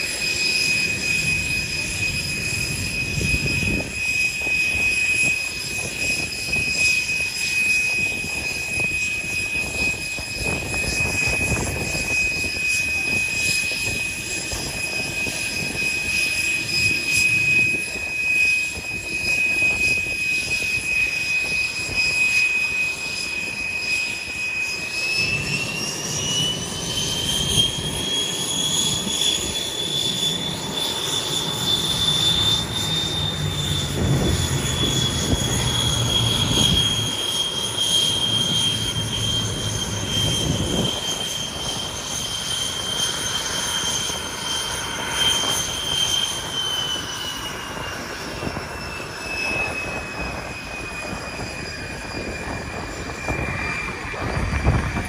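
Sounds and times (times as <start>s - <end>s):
jet engine whining: 0.0s - 55.0s.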